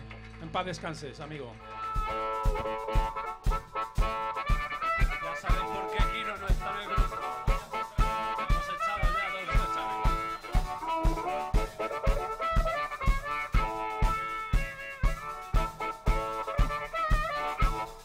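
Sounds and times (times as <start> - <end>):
bass: 0.0 - 18.0
amplified harmonica: 1.6 - 18.0
drums keeping a steady beat: 1.6 - 18.0
electric guitars: 1.6 - 18.0.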